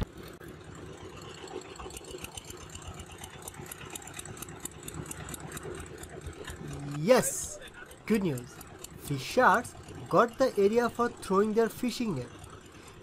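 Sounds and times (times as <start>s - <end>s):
boat engine knocking: 0.5s - 13.0s.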